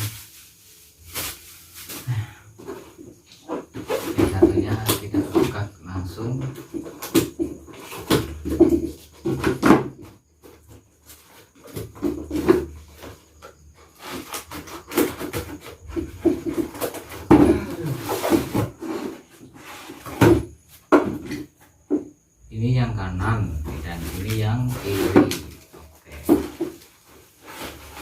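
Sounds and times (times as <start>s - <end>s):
packaging rustling and scraping: 0.0s - 5.7s, 6.3s - 20.2s, 23.6s - 28.0s.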